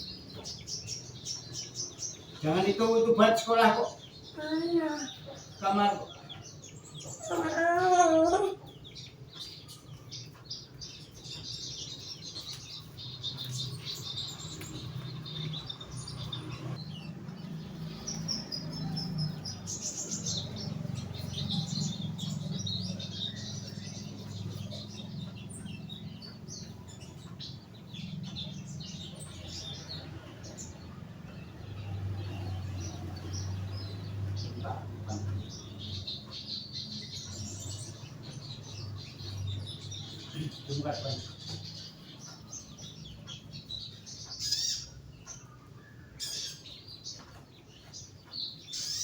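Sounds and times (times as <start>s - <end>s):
bird chirping: 0.0s - 49.0s.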